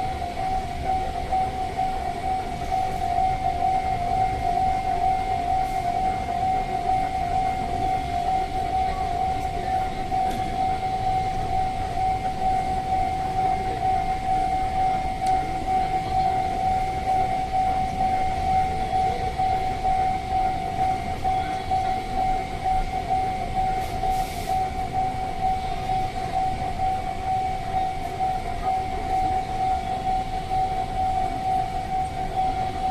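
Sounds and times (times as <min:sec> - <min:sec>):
freight train rumble: 0:00.0 - 0:32.9
level crossing warning bell: 0:00.0 - 0:32.9.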